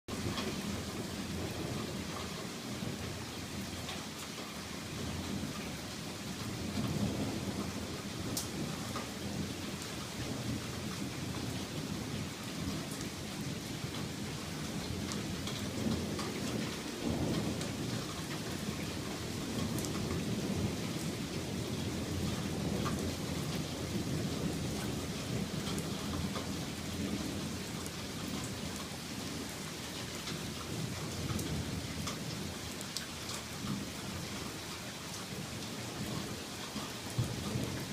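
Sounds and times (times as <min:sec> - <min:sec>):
steady rain: 0:00.1 - 0:37.9
low rumbling thunder: 0:00.2 - 0:04.0, 0:04.8 - 0:32.8, 0:37.0 - 0:37.9.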